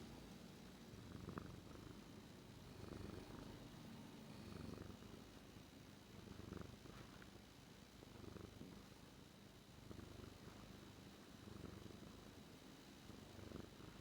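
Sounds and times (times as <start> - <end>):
cat purring: 0.8 - 8.9, 9.6 - 12.4, 13.0 - 14.0.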